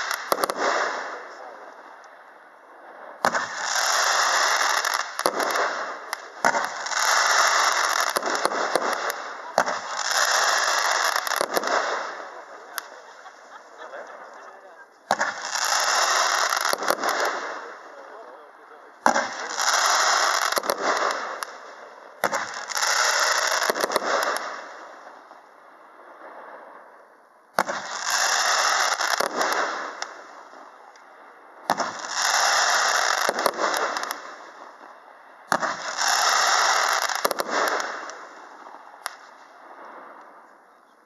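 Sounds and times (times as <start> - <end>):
fireworks hissing crackle: 0.0 - 26.5, 27.6 - 40.6
fireworks volley report: 0.0 - 41.0.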